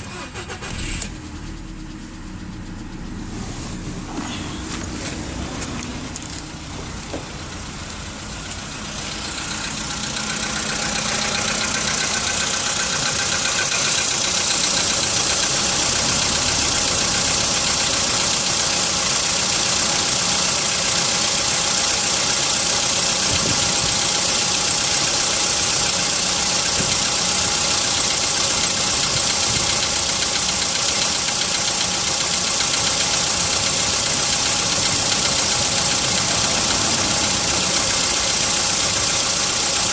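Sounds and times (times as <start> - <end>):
car engine idling with knock: 0.7 - 39.9.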